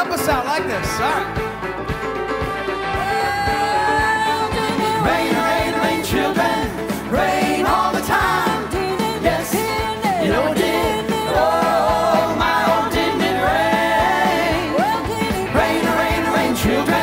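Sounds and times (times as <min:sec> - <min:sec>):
backing music with steady beat: 0:00.0 - 0:17.0
gospel voices singing in harmony: 0:03.0 - 0:17.0.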